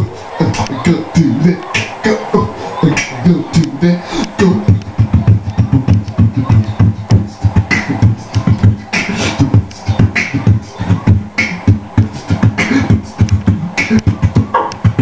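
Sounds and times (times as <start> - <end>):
beatboxing through microphone: 0.0 - 15.0.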